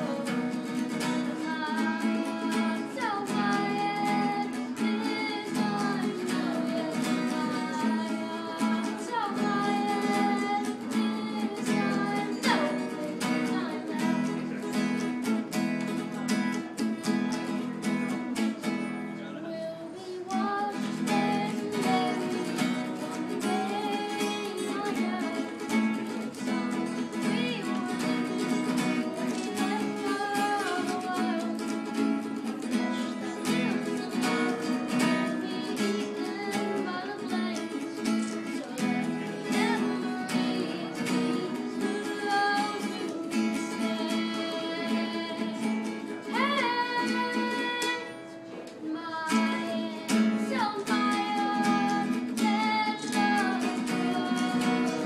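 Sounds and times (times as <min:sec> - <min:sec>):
boy singing: 0:00.0 - 0:15.2, 0:19.2 - 0:55.0
acoustic guitar strumming: 0:00.0 - 0:55.0.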